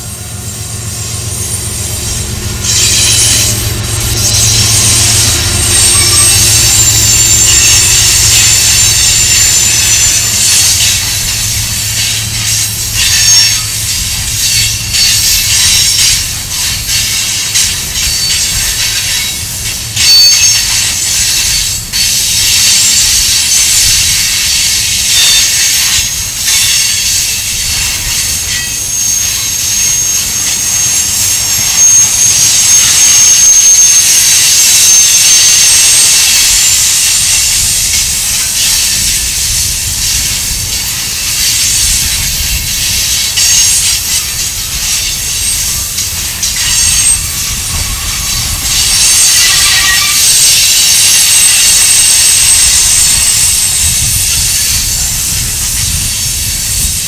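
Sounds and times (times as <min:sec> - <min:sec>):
loud high hiss: 0:00.0 - 0:57.0
train wheels rumbling on rails: 0:00.0 - 0:57.0
wheel squeal: 0:00.0 - 0:57.0
clacks over rail joints: 0:01.3 - 0:33.0, 0:34.0 - 0:57.0.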